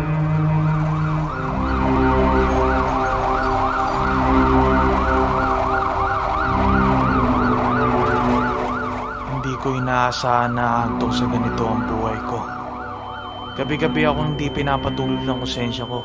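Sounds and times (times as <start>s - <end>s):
low music bed: 0.0s - 16.0s
siren yelping: 0.0s - 16.0s.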